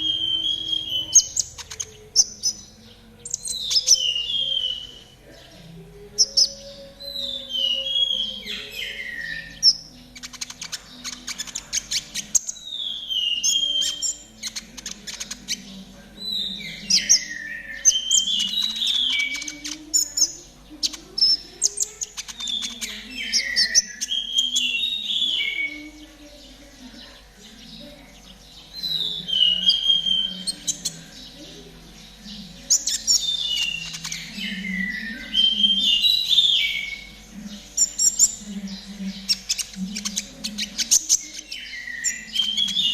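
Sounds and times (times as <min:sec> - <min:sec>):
bird chirps and trills: 0:00.0 - 0:42.9.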